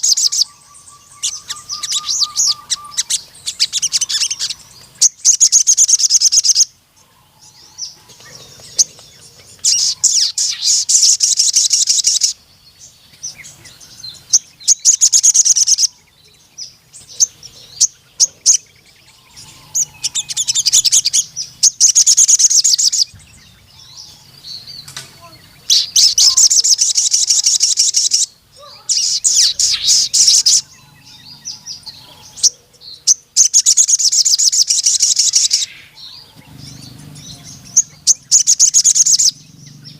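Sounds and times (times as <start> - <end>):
bird high-pitched trilling song: 0.0 - 39.9.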